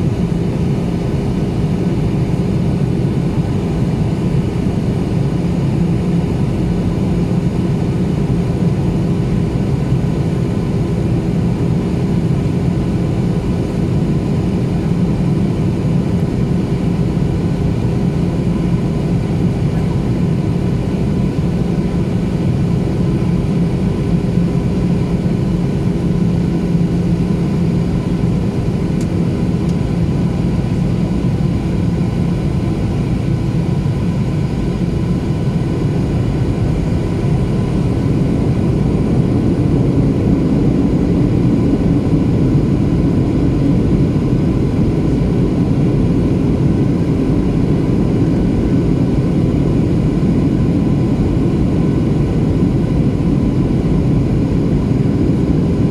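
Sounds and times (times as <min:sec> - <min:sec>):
jet engine drone: 0:00.0 - 0:55.9
steady hums: 0:00.0 - 0:55.9.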